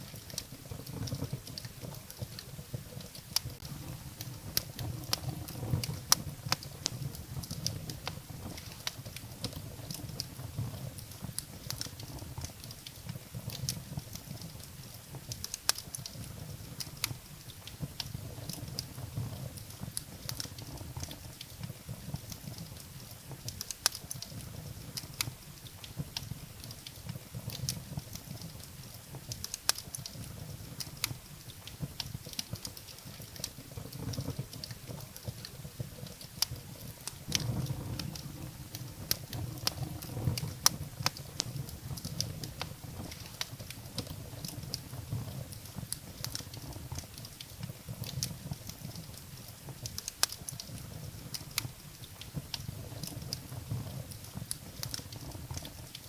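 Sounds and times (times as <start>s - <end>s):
firewood crackling and popping: 0.0s - 56.0s
low rumble of flames: 0.0s - 56.0s.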